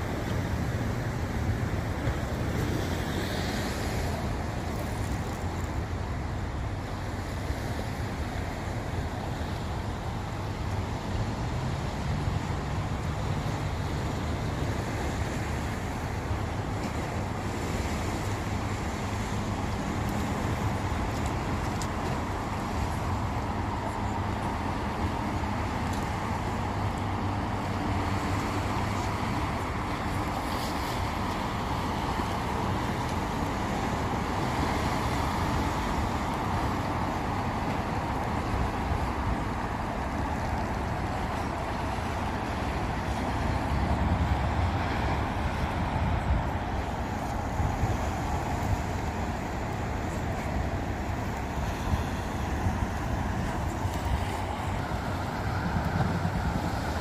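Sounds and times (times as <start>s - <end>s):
road traffic rushing: 0.0s - 57.0s
wind on microphone: 0.0s - 57.0s.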